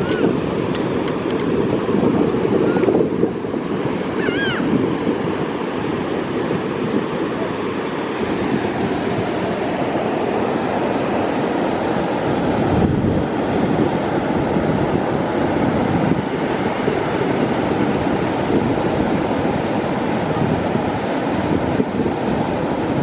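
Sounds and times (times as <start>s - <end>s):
ocean surf breaking: 0.0s - 23.0s
wind buffeting microphone: 0.0s - 23.0s.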